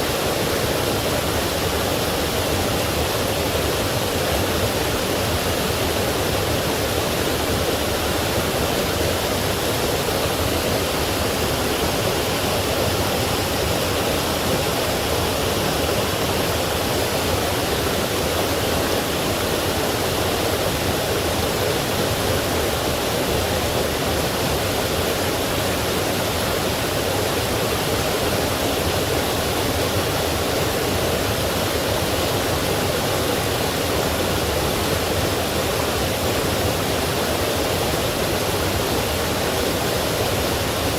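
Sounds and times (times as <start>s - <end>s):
stream and waterfall rushing: 0.0s - 40.9s.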